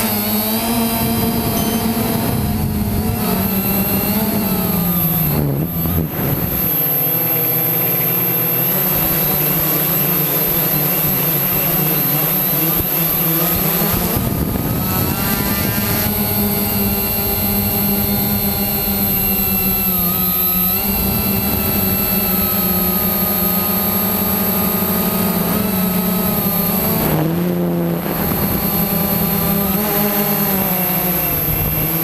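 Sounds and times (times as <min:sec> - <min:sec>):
drone motors and propellers whining: 0:00.0 - 0:32.0.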